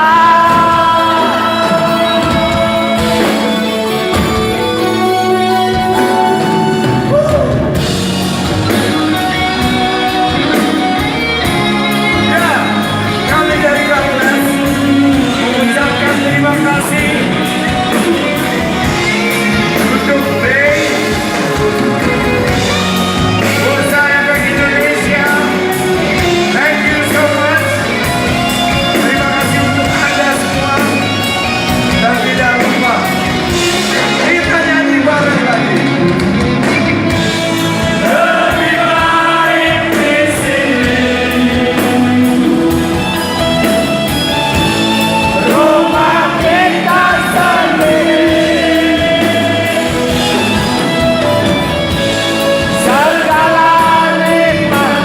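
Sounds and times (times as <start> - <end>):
person singing: 0.0 - 36.2, 37.5 - 43.6, 44.3 - 51.5, 52.3 - 55.0
rock band playing: 0.0 - 55.0.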